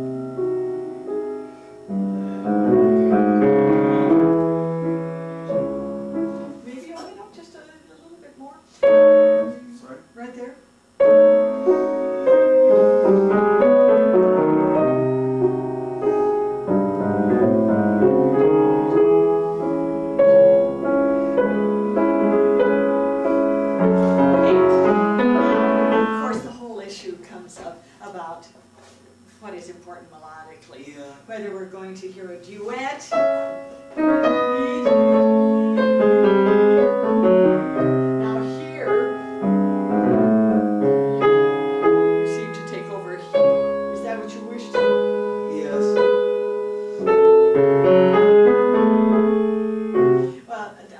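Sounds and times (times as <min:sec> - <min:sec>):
classical grand piano: 0:00.0 - 0:07.4, 0:08.7 - 0:09.8, 0:11.0 - 0:26.6, 0:32.7 - 0:50.5.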